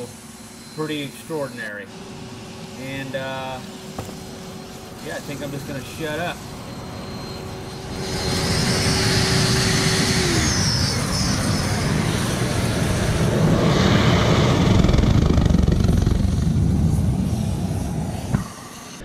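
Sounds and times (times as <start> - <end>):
low burner rumble: 0.0 - 19.0
steady hum: 0.0 - 19.0
steam jetting and hissing: 0.0 - 19.0.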